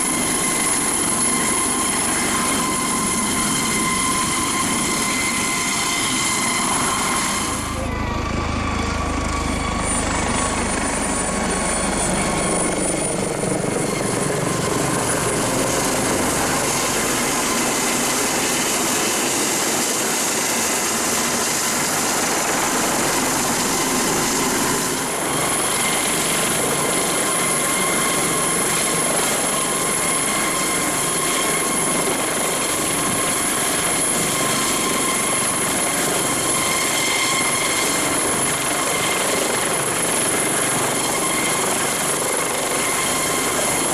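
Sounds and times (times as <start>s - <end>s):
helicopter rotor noise: 0.0s - 43.9s
high turbine whine: 0.0s - 43.9s.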